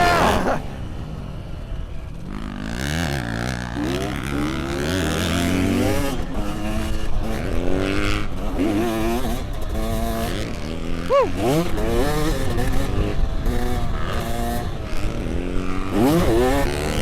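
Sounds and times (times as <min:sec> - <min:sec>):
dirt bike engine revving: 0:00.0 - 0:00.8, 0:02.3 - 0:17.0.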